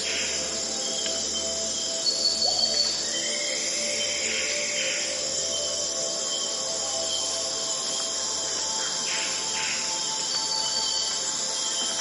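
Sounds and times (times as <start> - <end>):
ambient drone music: 0.0 - 12.0
crickets chirping: 0.0 - 12.0.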